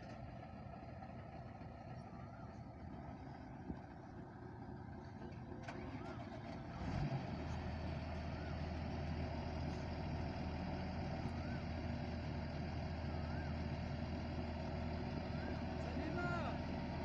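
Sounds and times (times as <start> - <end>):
diesel machinery engine running: 0.0 - 17.0.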